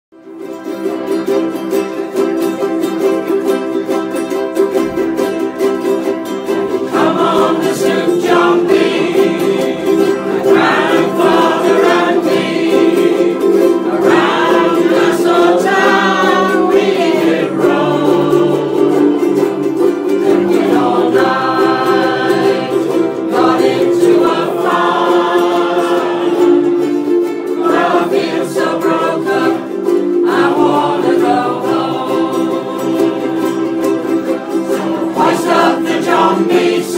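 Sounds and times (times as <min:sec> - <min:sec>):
ukuleles strumming chords: 0:00.1 - 0:36.9
group of people singing: 0:06.5 - 0:36.9.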